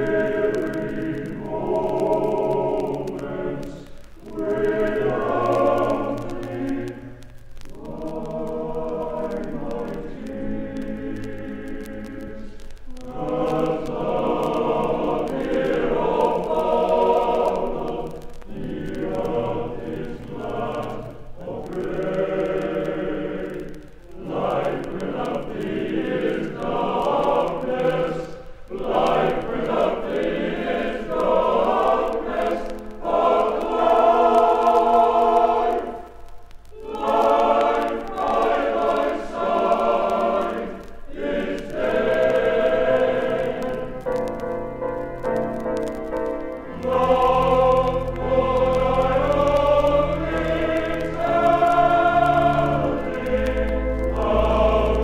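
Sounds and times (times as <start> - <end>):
male voice choir singing: 0.0 - 36.1, 36.8 - 44.4, 46.6 - 55.0.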